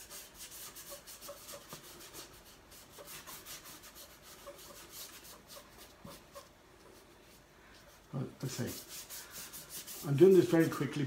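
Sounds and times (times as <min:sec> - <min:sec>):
paintbrush brushing on paper: 0:00.0 - 0:11.0.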